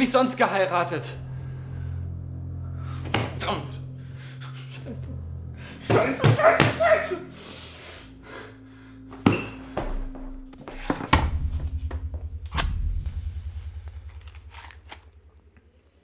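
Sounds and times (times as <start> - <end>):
low pulsing rumble: 0.0 - 9.1, 10.0 - 16.0.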